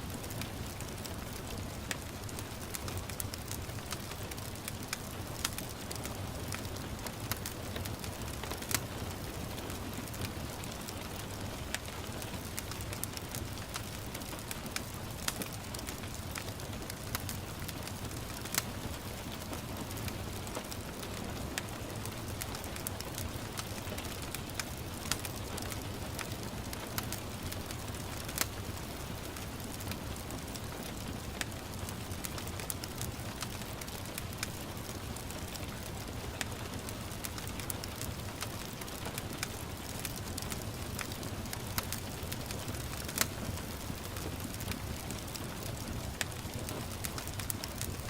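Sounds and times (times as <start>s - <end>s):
gentle rain: 0.0s - 48.0s
wood fire crackling and popping: 0.0s - 48.0s.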